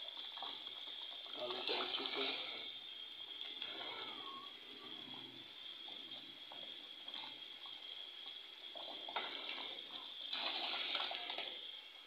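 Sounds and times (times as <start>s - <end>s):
broth bubbling in metal pot: 0.0s - 12.0s.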